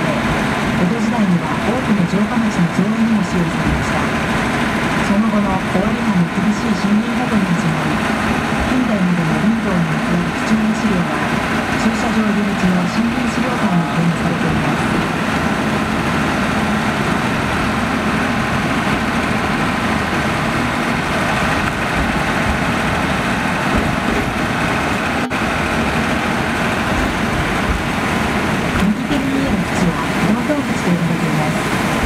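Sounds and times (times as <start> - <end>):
diesel locomotive engine: 0.0 - 32.0
train wheels on rails: 0.0 - 32.0.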